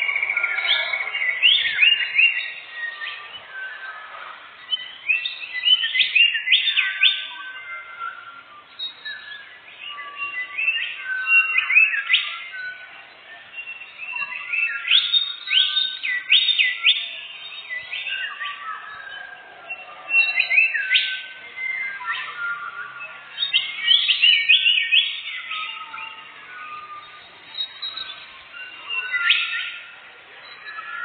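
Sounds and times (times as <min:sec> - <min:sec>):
songbird singing: 0:00.0 - 0:31.0.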